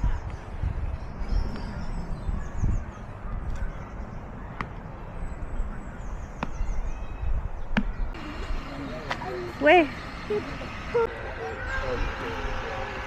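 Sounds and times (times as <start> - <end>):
wild birds singing: 0.0 - 13.0.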